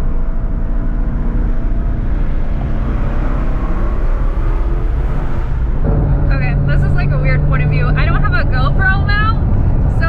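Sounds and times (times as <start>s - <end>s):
car engine running from cabin: 0.0s - 10.0s.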